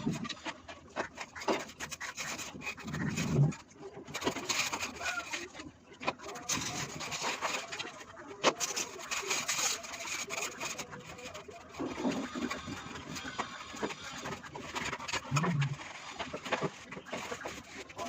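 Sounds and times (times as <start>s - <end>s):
scraping and rubbing: 0.0s - 18.0s.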